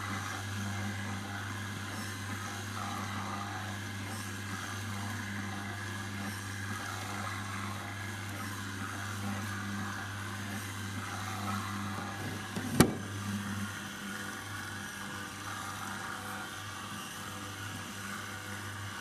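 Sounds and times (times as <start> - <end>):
dough mixer motor humming: 0.0 - 19.0.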